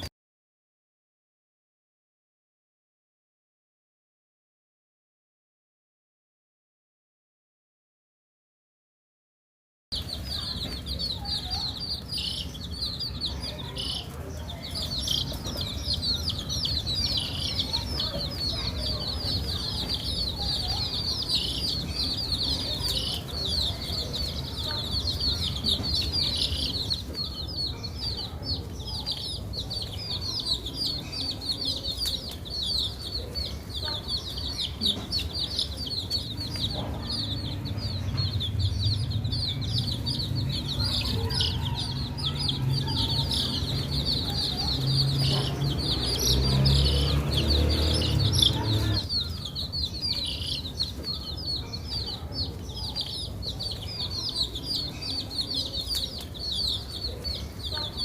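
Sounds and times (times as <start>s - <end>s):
baby chicks peeping: 9.9s - 58.0s.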